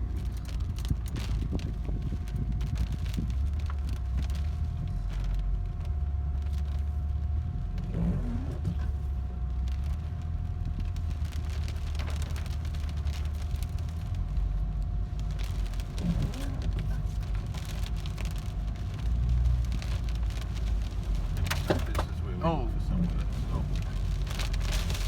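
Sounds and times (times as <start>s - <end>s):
car driving rumble from inside: 0.0s - 25.0s
rain and debris ticking on car: 0.0s - 25.0s.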